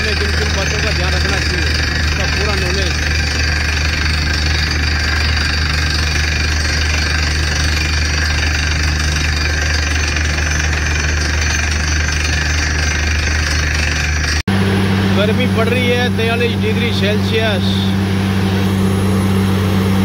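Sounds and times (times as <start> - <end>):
drilling rig engine drone: 0.0 - 20.0.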